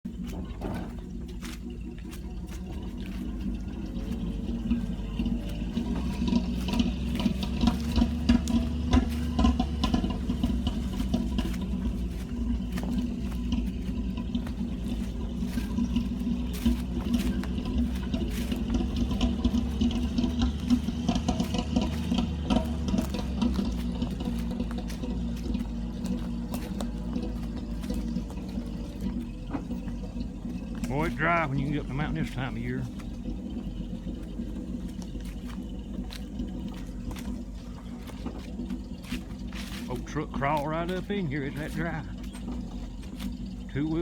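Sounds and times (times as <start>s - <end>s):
truck engine pulling: 0.0s - 44.0s
truck rattles and knocks: 0.0s - 44.0s.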